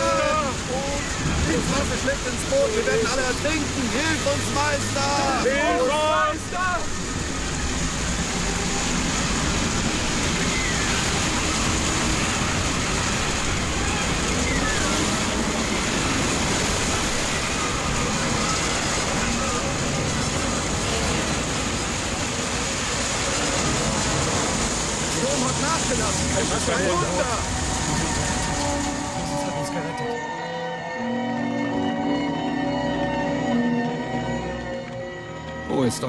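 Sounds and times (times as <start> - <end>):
heavy waves breaking: 0.0 - 36.0
wind: 0.0 - 36.0.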